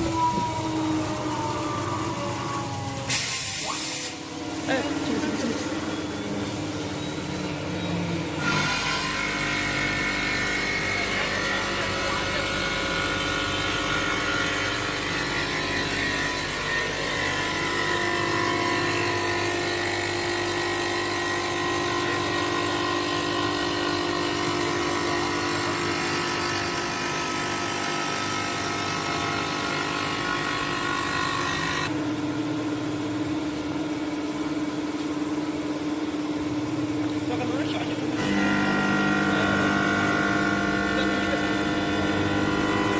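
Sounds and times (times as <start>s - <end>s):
stone cutting machine whine and hiss: 0.0s - 31.9s, 37.3s - 42.9s.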